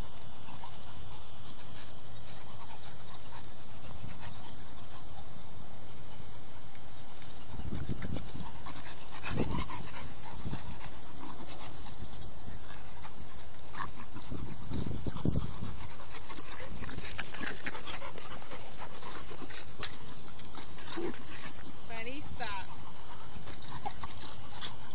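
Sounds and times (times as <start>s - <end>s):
puppies growling: 0.0s - 24.9s
puppies panting: 0.0s - 24.9s.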